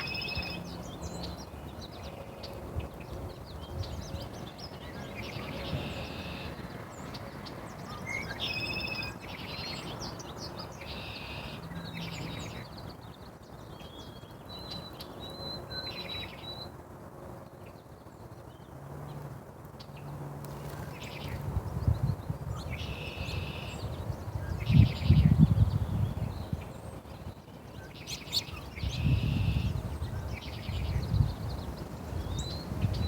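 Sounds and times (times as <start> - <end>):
small birds chirping: 0.0 - 16.8, 17.4 - 33.0.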